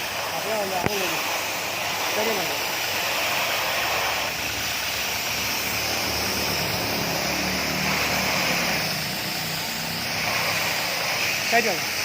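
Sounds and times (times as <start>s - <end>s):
machine motor hum with hiss: 0.0s - 12.0s.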